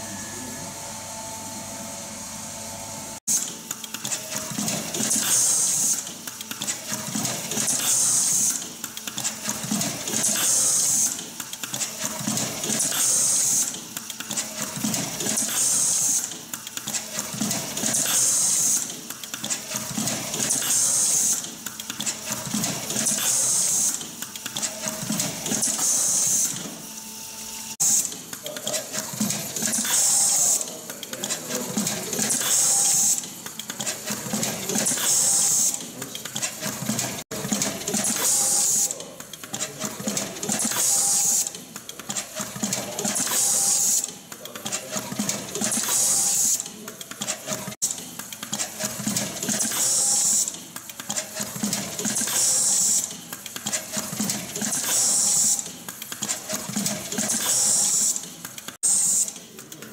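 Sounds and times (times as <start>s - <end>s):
machine mechanical clatter: 3.3s - 26.9s, 27.5s - 59.9s
pneumatic hiss: 3.3s - 59.8s.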